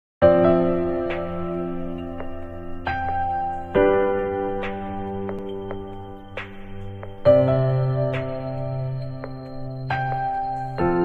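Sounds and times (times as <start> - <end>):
gentle instrumental music: 0.2 - 11.0.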